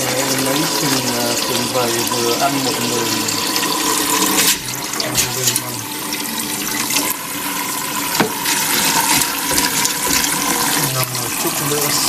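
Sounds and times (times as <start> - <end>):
water running into bowl: 0.0 - 12.0.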